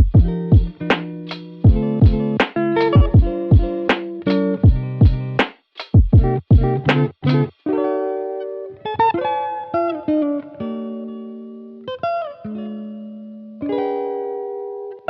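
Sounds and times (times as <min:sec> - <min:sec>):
plucked guitar chords: 0:00.0 - 0:15.0.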